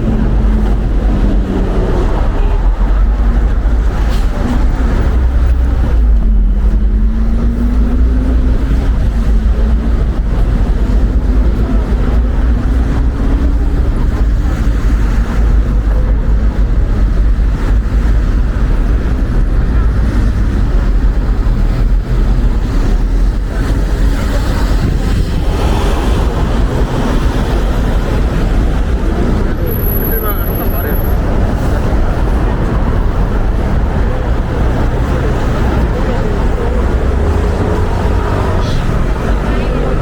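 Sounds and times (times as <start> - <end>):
street noise: 0.0 - 40.0
wind buffeting microphone: 0.0 - 40.0.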